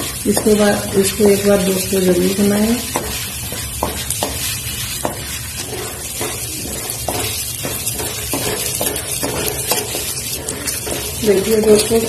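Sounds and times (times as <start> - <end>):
lentils sizzling in oil: 0.0 - 12.0
spatula scraping a pan: 0.0 - 12.0.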